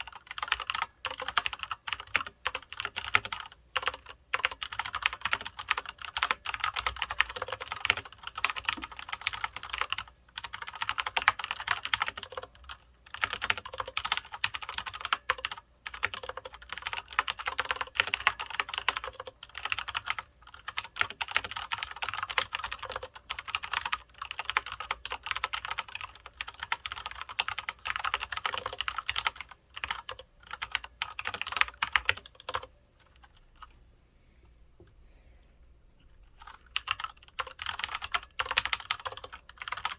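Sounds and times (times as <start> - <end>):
mechanical keyboard typing: 0.0 - 33.7, 36.3 - 39.9.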